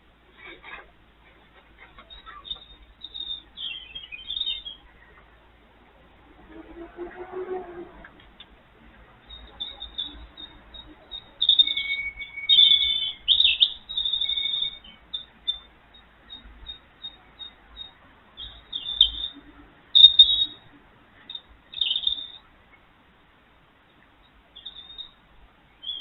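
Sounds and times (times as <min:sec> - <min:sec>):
small birds singing and chirping: 0:00.3 - 0:05.4, 0:08.9 - 0:22.9, 0:23.8 - 0:26.0.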